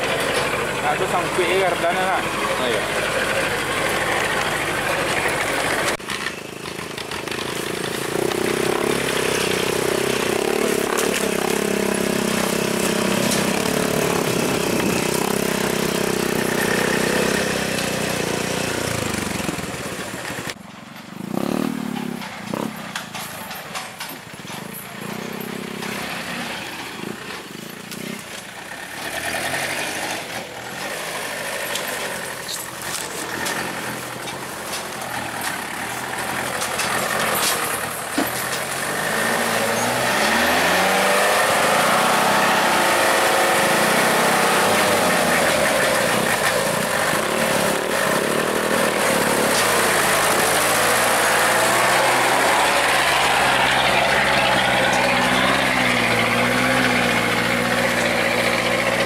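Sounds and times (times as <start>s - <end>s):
truck engine revving under load: 0.0s - 59.0s.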